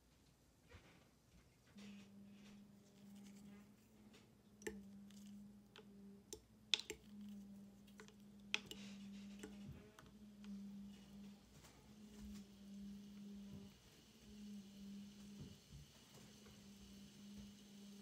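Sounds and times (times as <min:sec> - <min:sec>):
steady low hum: 0:01.6 - 0:18.0.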